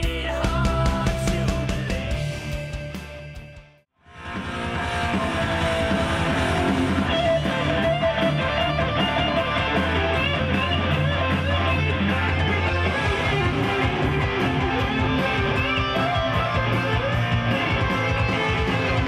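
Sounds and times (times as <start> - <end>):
instrumental rock music: 0.0 - 19.0.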